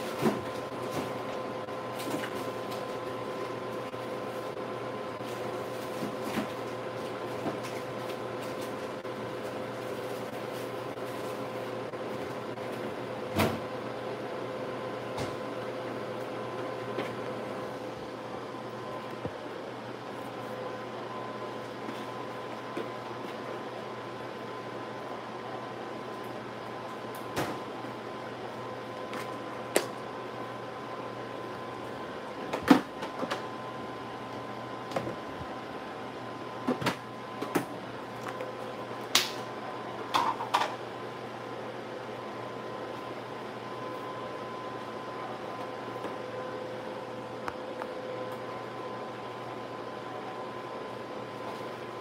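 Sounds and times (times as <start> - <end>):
extractor fan humming: 0.0 - 52.0.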